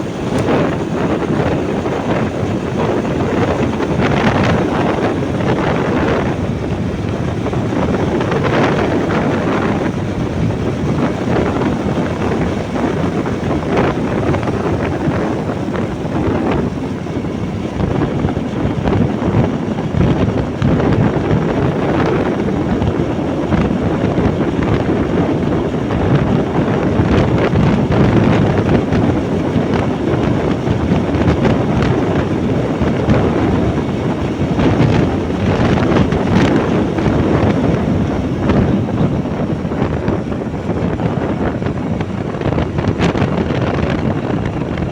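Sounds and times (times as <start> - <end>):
motorbike engine running: 0.0 - 44.9
wind buffeting microphone: 0.0 - 44.9.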